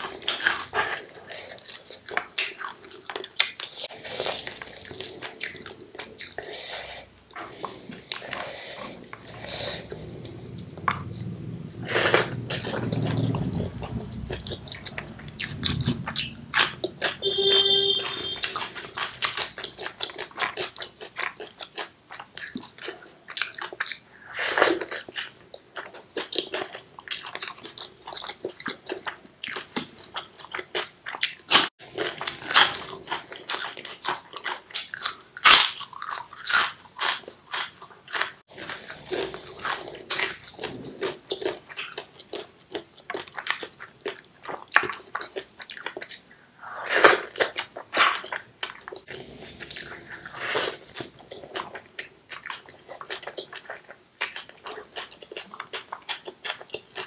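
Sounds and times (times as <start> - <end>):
chewing and crunching: 0.0 - 17.4, 18.1 - 57.0.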